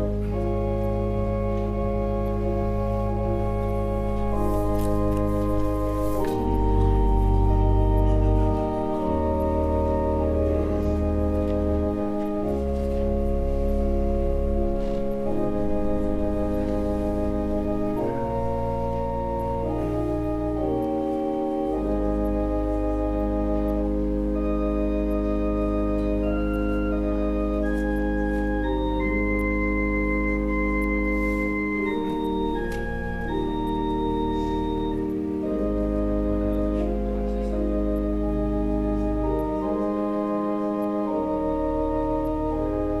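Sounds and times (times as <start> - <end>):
organ playing sustained chords: 0.0 - 43.0.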